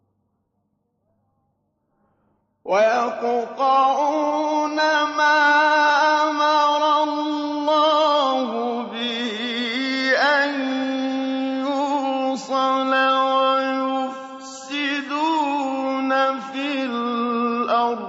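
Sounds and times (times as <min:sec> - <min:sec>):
man chanting melodically: 0:02.7 - 0:18.0.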